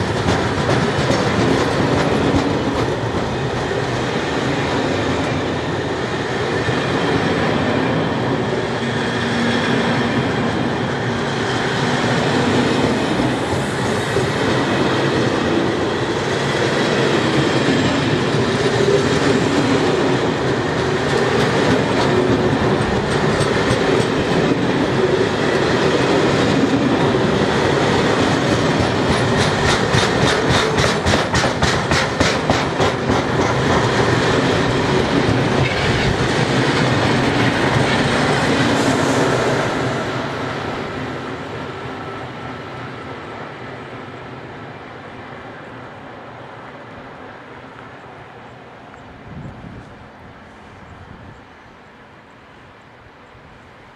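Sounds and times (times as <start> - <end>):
steel wheels rumbling on rails: 0.0 - 44.4.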